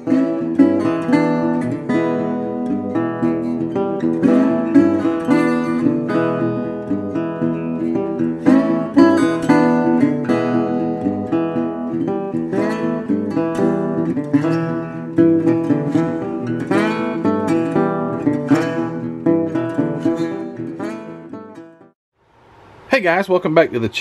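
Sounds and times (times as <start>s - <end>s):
acoustic guitar tune: 0.0s - 22.0s.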